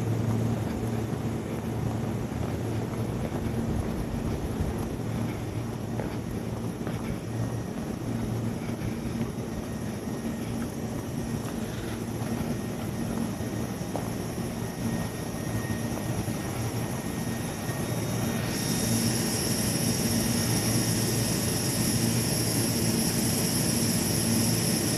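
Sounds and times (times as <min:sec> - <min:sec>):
electric train drone: 0:00.0 - 0:24.9
high-pitched hiss: 0:00.0 - 0:24.9.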